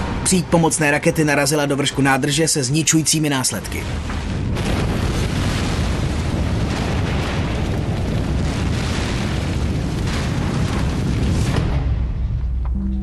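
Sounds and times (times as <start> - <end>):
explosion rumble with crackling: 0.0 - 13.0.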